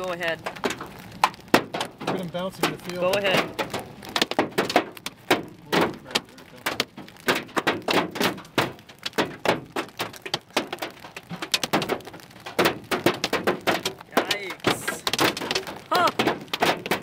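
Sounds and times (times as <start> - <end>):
hailstones pelting a van: 0.0 - 17.0.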